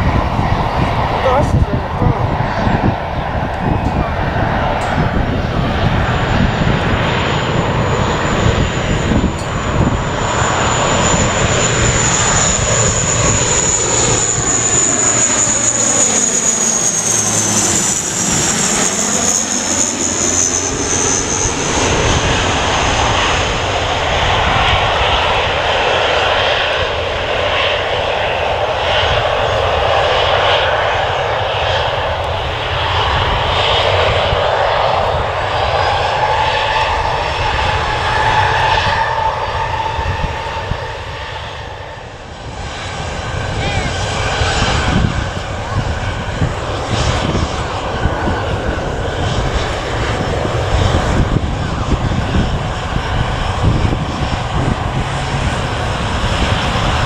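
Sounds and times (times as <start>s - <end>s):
airliner engines passing: 0.0s - 57.0s.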